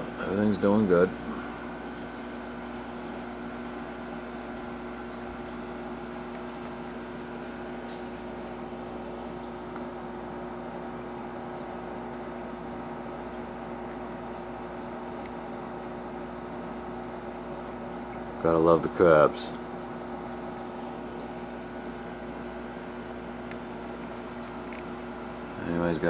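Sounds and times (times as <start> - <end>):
aquarium pumps humming: 0.0 - 26.0
circulating water: 0.0 - 26.0.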